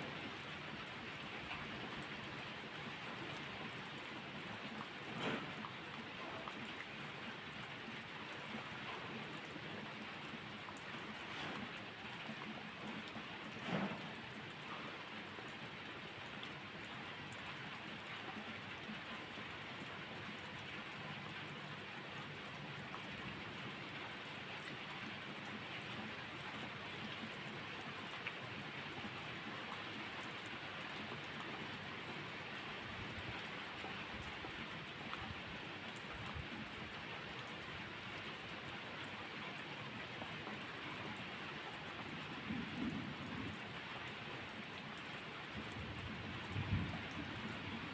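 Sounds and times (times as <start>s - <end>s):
steady rainfall: 0.0s - 47.9s.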